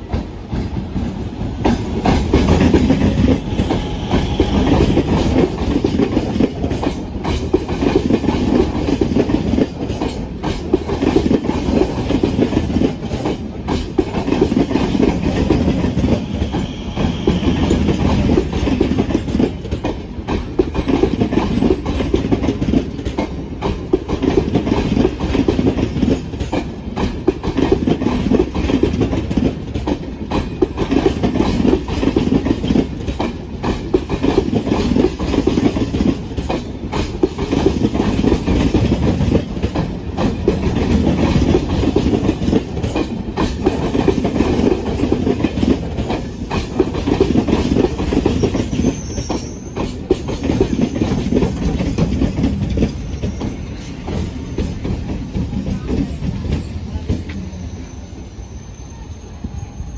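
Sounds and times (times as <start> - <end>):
wheels clacking over rail joints: 0.0 - 57.5
train wheels rumbling on rails: 0.0 - 59.9.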